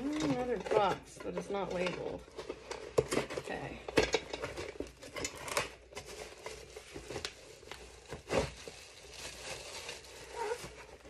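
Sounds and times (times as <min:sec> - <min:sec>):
cardboard packaging crinkling: 0:00.0 - 0:11.0.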